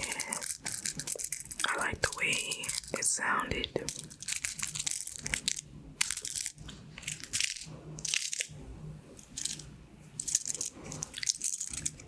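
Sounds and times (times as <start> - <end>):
pin art toy pins rattling: 0.0 - 3.0, 3.9 - 8.5, 9.2 - 12.0.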